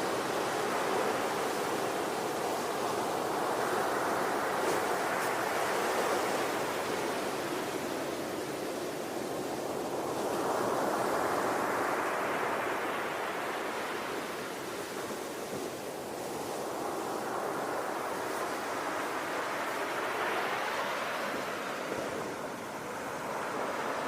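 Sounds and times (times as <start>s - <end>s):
ocean waves breaking on shore: 0.0s - 24.0s.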